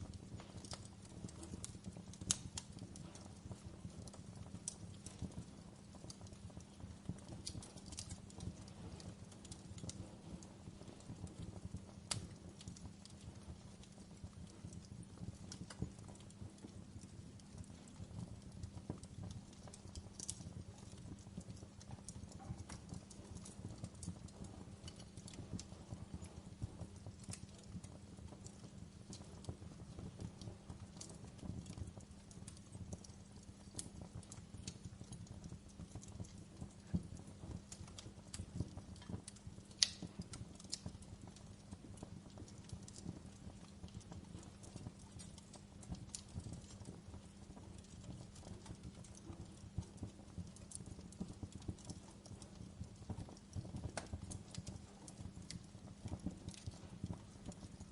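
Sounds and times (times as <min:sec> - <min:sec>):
fire crackling: 0:00.0 - 0:57.9
flames rumbling: 0:00.0 - 0:57.9
wood fire popping: 0:00.0 - 0:57.9.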